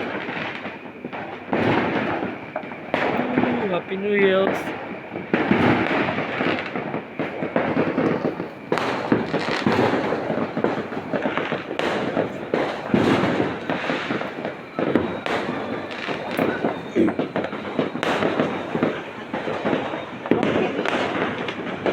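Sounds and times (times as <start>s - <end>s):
fireworks crackling: 0.0s - 21.9s.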